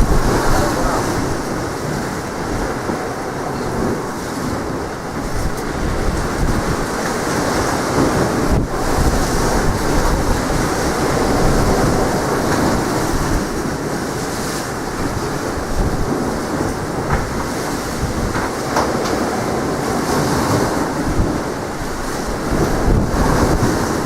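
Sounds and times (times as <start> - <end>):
sea surf: 0.0 - 24.0
strong wind on microphone: 0.0 - 24.0.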